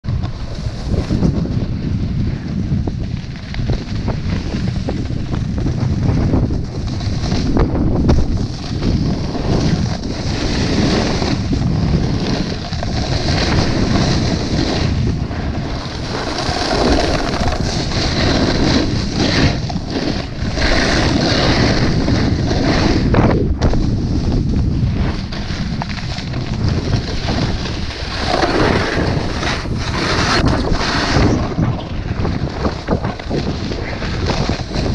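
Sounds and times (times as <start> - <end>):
wind buffeting microphone: 0.0 - 34.9
snowboard edge scraping snow: 0.1 - 34.9.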